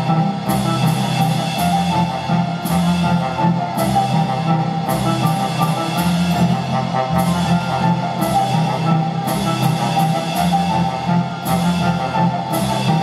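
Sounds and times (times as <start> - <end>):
folk dance music over loudspeakers: 0.0 - 13.0.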